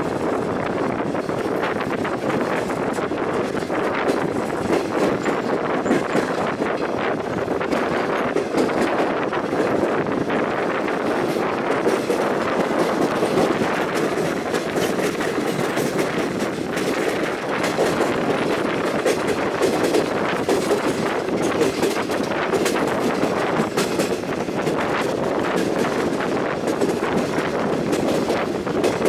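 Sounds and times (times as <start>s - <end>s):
train rumbling over rail joints: 0.0s - 29.0s.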